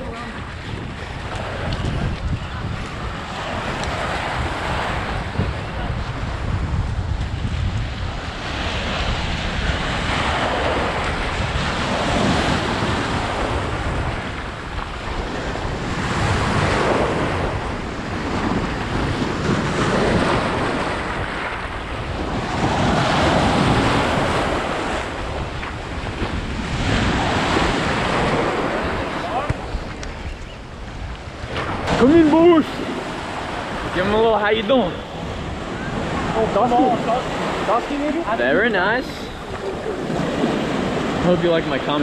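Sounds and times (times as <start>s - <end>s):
ocean surf breaking: 0.0s - 42.0s
wind rumbling on microphone: 0.0s - 42.0s.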